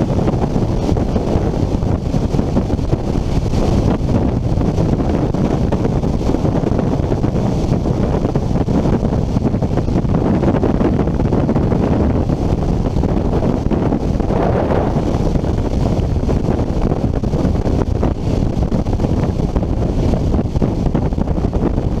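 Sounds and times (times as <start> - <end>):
wind roaring over microphone: 0.0 - 22.0.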